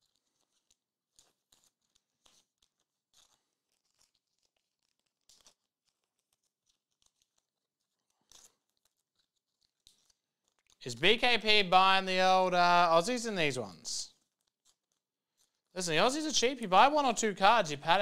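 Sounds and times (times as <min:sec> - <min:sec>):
trading cards rustling: 0:00.0 - 0:18.0.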